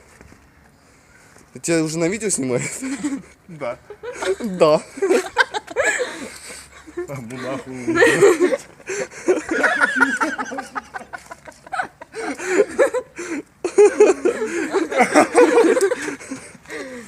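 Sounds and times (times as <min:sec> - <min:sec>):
people laughing: 0:02.6 - 0:17.0.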